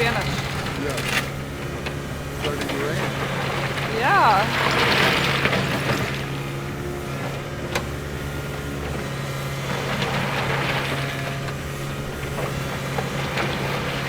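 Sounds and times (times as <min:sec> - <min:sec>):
diesel excavator engine running: 0:00.0 - 0:14.0.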